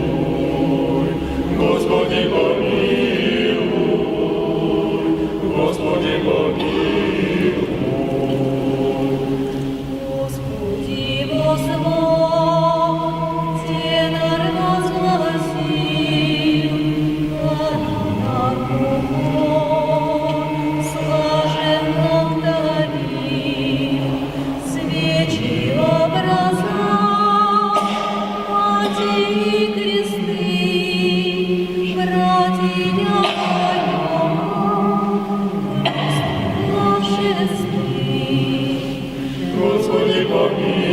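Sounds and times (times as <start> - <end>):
vocal ensemble singing in harmony: 0.0 - 40.9.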